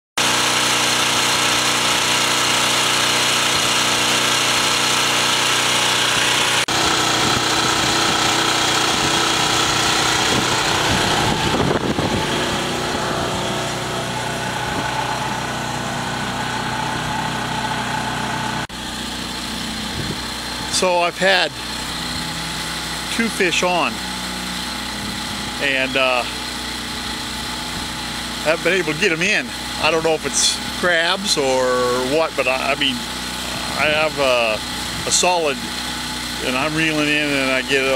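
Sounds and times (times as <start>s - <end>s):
gas generator engine running: 0.2s - 37.9s.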